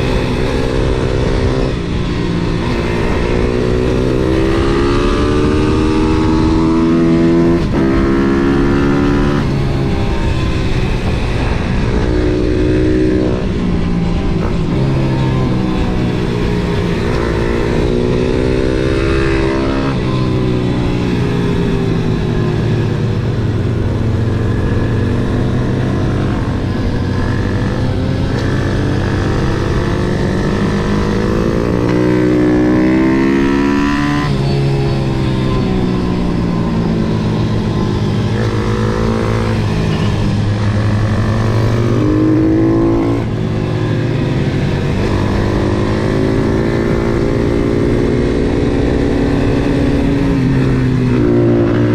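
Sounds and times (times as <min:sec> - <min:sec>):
motorbike engine revving: 0:00.0 - 0:51.9.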